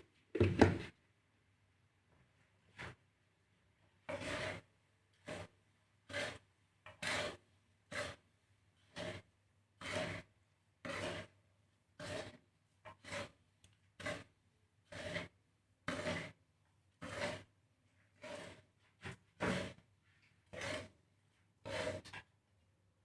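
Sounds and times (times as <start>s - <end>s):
seeds stirred and scraped in a pan: 2.6s - 3.0s, 3.6s - 22.4s.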